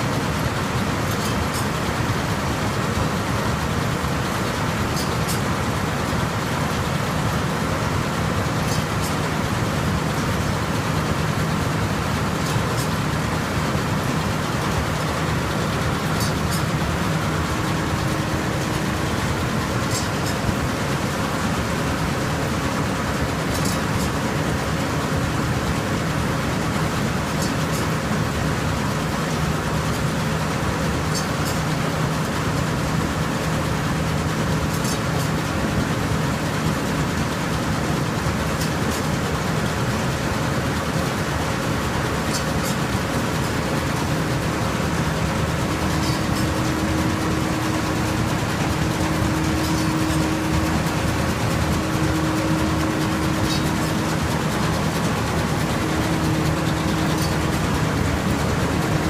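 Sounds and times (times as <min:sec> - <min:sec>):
combine harvester mechanical drone: 0:00.0 - 0:59.0.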